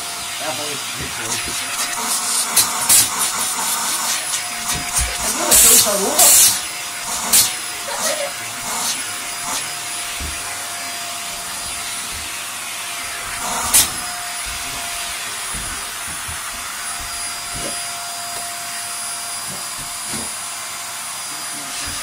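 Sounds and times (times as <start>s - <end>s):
vacuum cleaner whining: 0.0s - 22.0s.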